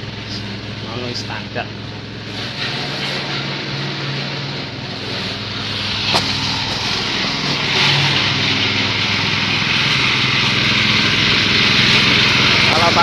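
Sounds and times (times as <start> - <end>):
chopping machine engine hum: 0.0 - 13.0
loud rushing noise: 2.2 - 13.0.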